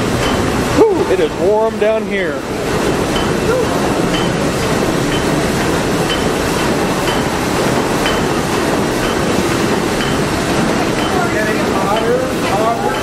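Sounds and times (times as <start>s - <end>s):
steam engine mechanical clatter: 0.0s - 13.0s.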